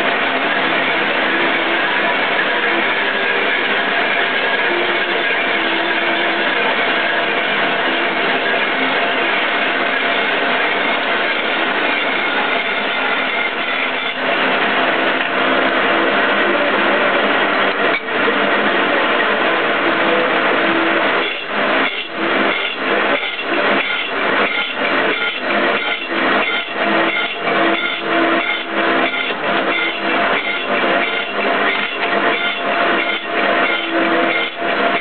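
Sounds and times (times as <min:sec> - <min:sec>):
saw cutting through steel: 0:00.0 - 0:35.0.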